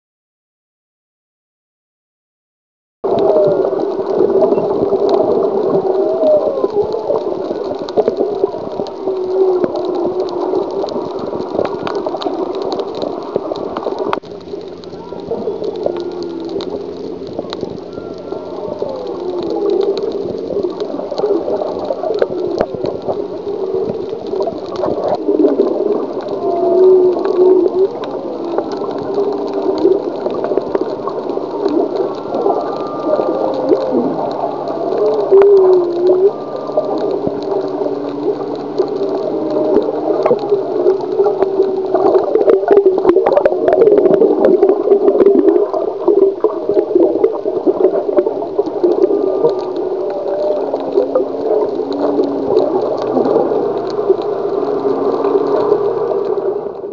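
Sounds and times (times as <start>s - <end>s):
whale song underwater: 3.0s - 56.9s
crackling clicks: 3.1s - 56.9s.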